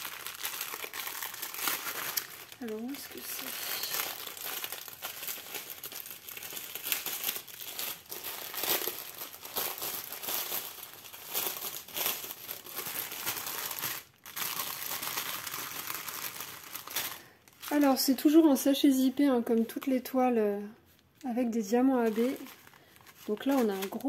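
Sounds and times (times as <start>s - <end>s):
plastic packaging crinkling: 0.0s - 18.5s, 20.9s - 24.0s.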